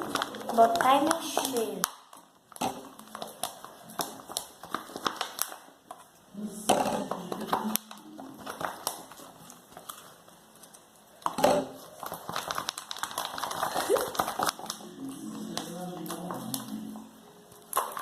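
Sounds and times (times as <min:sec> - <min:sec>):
slime being stirred in bowl: 0:00.0 - 0:18.0.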